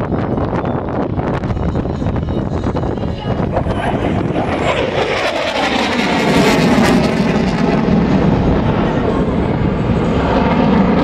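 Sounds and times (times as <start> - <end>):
jet flying past: 0.1 - 11.0.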